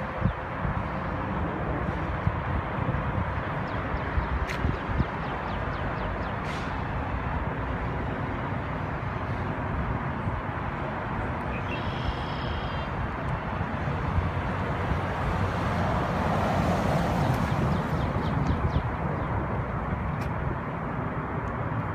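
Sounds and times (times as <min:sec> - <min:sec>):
outdoor background noise: 0:00.0 - 0:21.9.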